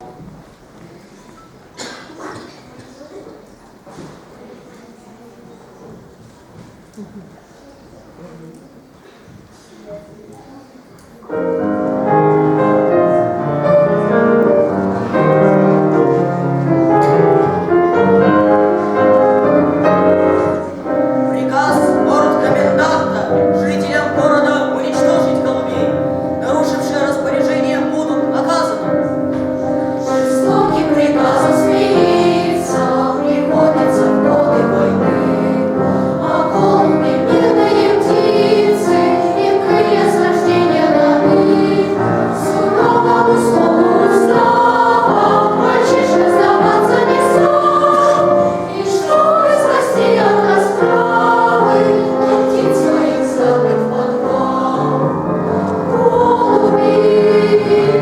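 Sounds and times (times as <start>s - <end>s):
boys' choir singing: 11.4s - 58.0s.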